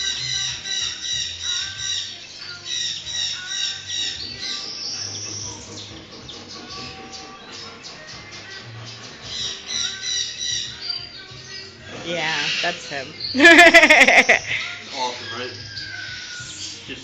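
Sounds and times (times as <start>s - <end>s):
parrots squawking: 0.0s - 8.5s, 9.1s - 10.9s, 11.6s - 16.9s.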